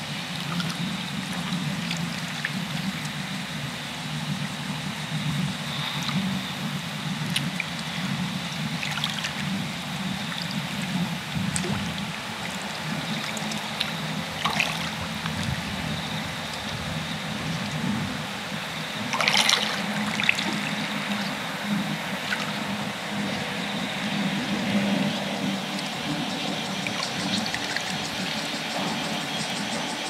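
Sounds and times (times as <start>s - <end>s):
small water splashes: 0.0s - 3.6s, 4.2s - 29.8s
low steady hum: 0.0s - 30.0s
small waves lapping: 0.0s - 30.0s.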